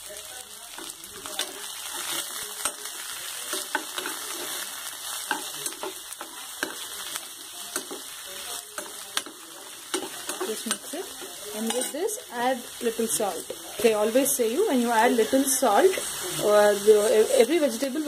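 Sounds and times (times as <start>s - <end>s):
eggplant sizzling in hot oil: 0.0s - 18.0s.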